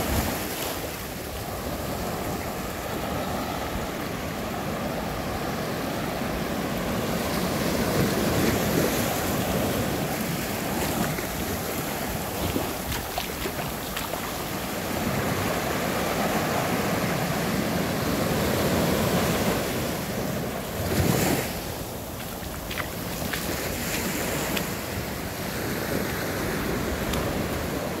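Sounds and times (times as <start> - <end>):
ocean surf washing on beach: 0.0 - 28.0
wind on microphone: 0.0 - 28.0.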